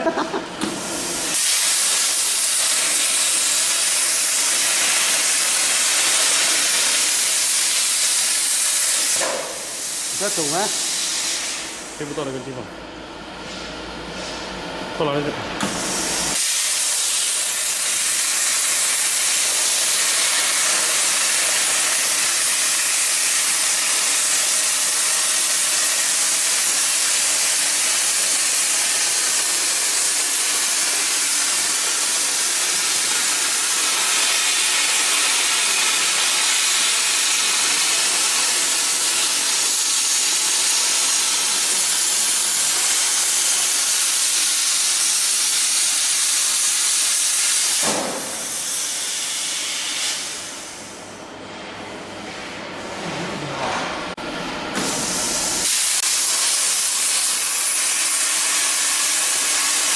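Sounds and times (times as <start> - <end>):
plasma cutter hissing: 0.6 - 12.3, 15.6 - 51.0, 54.8 - 59.9.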